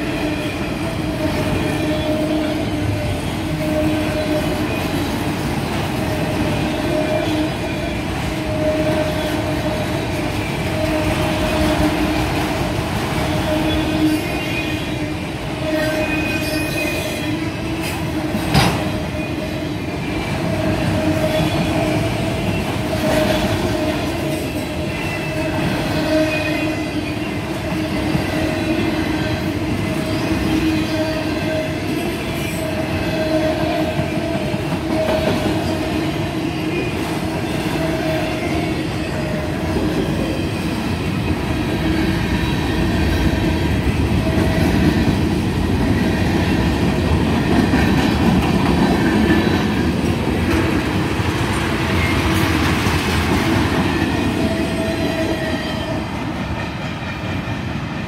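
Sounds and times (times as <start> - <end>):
wheels squealing on rails: 0.0 - 58.0.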